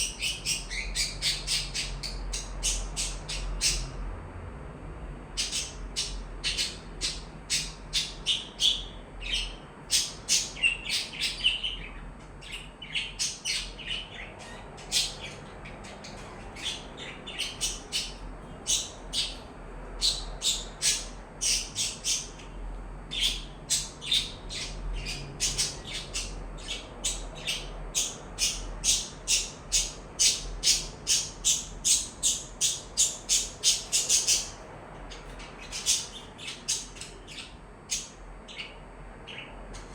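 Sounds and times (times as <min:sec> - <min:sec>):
small parrots chirping: 0:00.0 - 0:03.9, 0:05.4 - 0:39.8.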